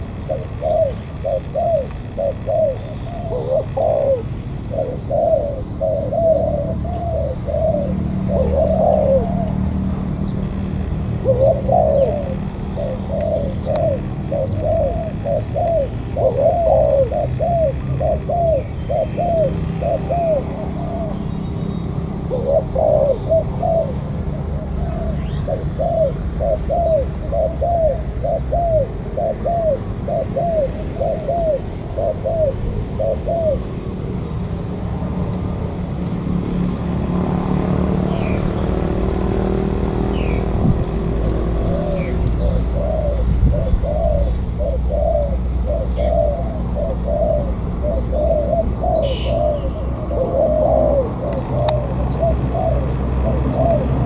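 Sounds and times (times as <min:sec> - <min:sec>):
small birds chirping: 0:00.0 - 0:36.8, 0:37.8 - 0:54.0
dove cooing: 0:00.0 - 0:54.0.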